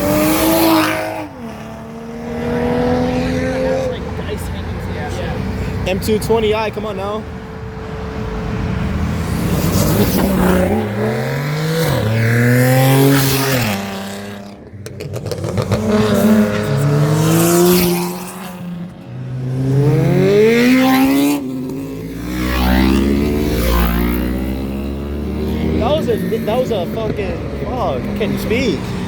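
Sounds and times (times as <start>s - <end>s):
cars accelerating hard: 0.0s - 29.0s.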